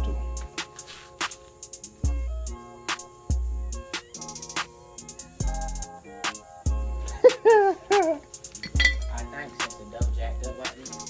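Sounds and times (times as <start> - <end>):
hip hop beat: 0.0 - 11.0.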